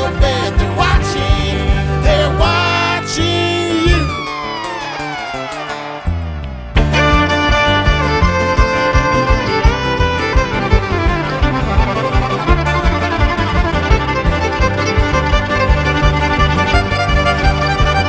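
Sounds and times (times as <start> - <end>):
bluegrass band playing: 0.0 - 18.0
fiddle melody: 0.0 - 18.0.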